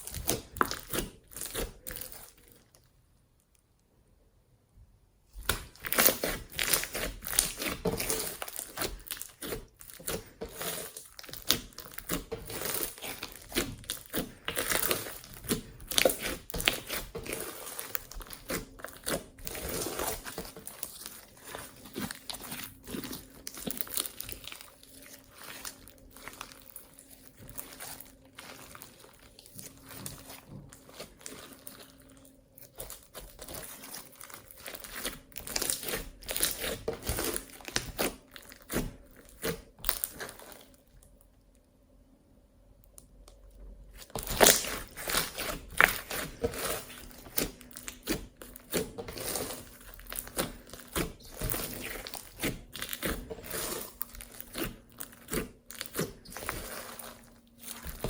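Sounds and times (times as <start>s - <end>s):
slime crackling and popping: 0.0s - 2.8s, 5.4s - 41.2s, 44.0s - 58.0s.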